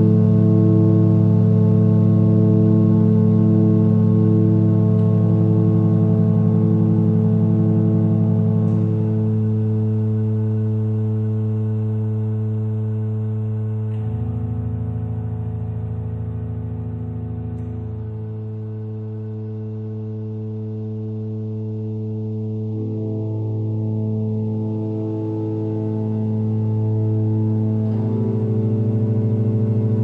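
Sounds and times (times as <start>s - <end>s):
droning electronic music: 0.0s - 30.0s.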